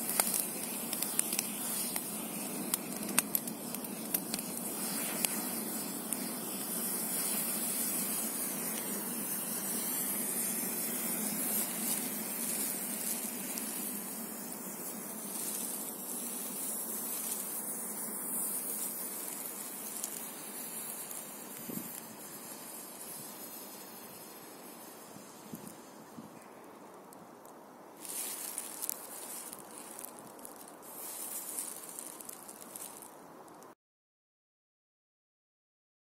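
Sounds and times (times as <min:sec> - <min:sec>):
smoke charge hissing: 0:00.0 - 0:26.9, 0:28.0 - 0:33.2.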